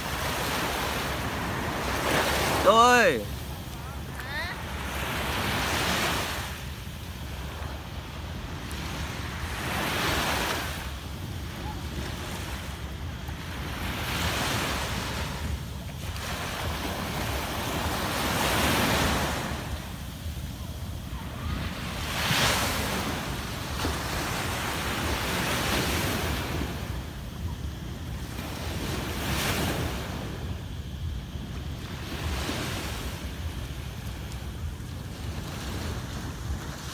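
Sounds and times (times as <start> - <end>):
small waves breaking on sand: 0.0 - 36.9.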